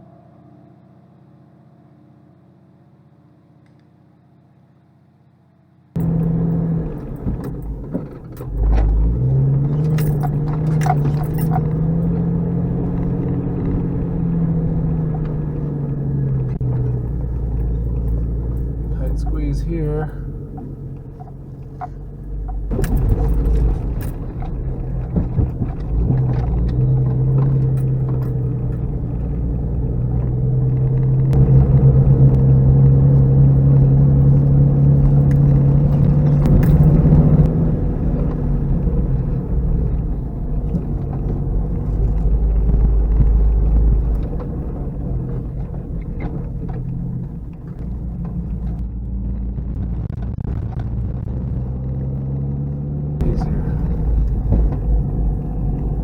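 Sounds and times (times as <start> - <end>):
car engine running: 5.7 - 56.0
suspension knocks and clicks: 6.0 - 49.4, 53.2 - 56.0.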